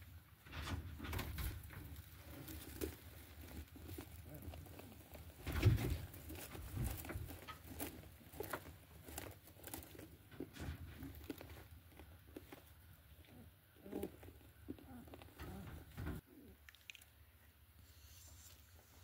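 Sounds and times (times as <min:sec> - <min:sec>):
rustling of straw bedding: 0:00.0 - 0:15.8.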